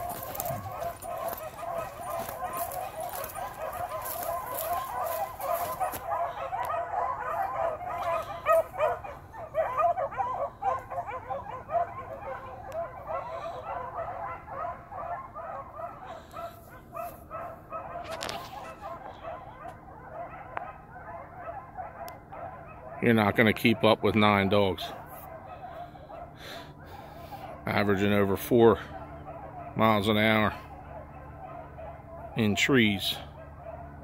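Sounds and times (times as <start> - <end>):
dogs barking and yipping: 0.0 - 34.0.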